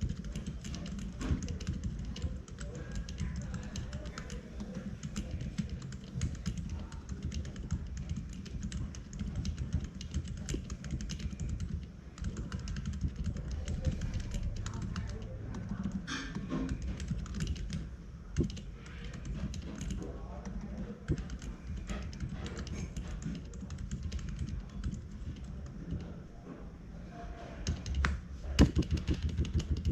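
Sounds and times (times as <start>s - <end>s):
fast typing on mechanical keyboard: 0.0s - 26.2s, 27.6s - 29.9s.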